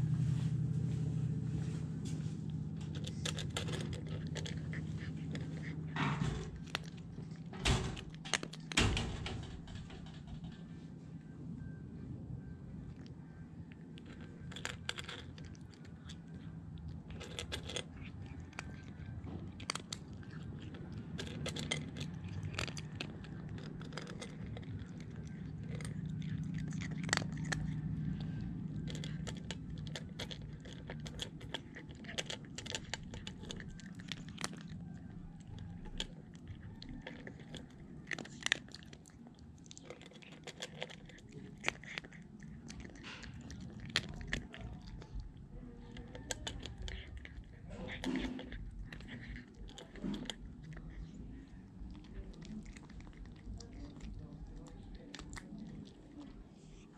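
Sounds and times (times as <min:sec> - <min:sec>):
low hum: 0:00.0 - 0:56.9
cat crunching dry kibble: 0:01.9 - 0:11.0, 0:12.6 - 0:56.9.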